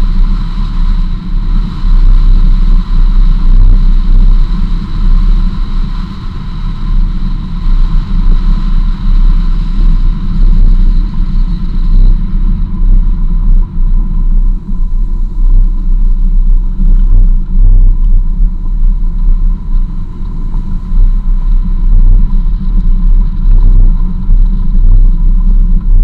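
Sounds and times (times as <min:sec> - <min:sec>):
vehicle engine and tyres on dirt: 0:00.0 - 0:26.0
wind buffeting microphone: 0:00.0 - 0:26.0.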